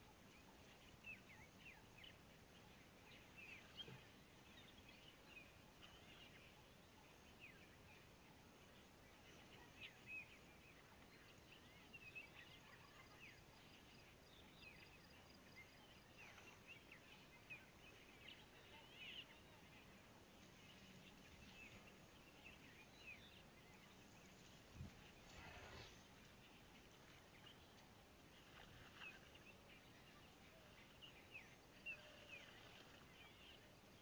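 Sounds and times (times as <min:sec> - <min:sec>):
low steady outdoor hiss: 0:00.0 - 0:34.0
small birds chirping: 0:00.0 - 0:34.0.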